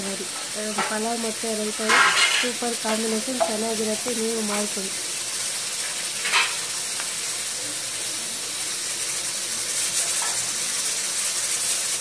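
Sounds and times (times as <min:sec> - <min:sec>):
pressure cooker hissing: 0:00.0 - 0:12.0.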